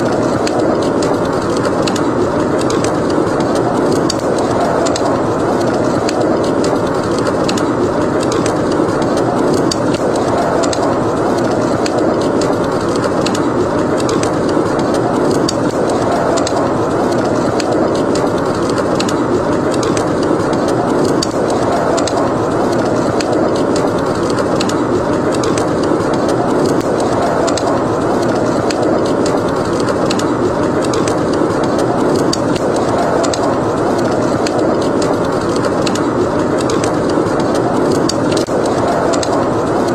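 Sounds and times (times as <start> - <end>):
howling blizzard wind: 0.0 - 39.9
wood fire crackling: 0.0 - 39.9.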